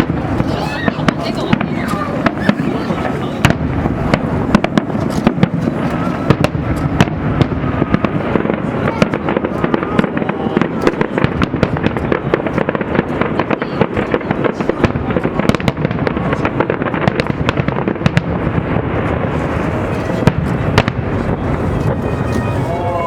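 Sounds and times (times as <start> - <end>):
fireworks crackling: 0.0 - 23.0
loud firework bangs: 0.0 - 23.0.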